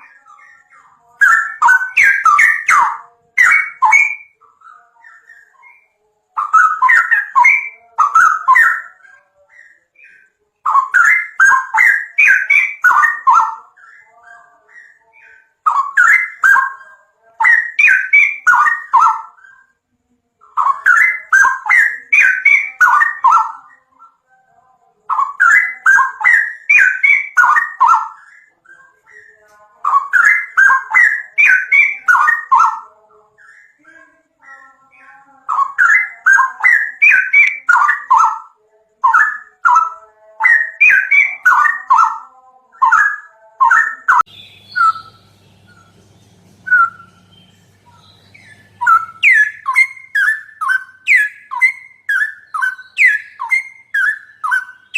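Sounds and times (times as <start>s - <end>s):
songbird singing: 0.0s - 54.9s.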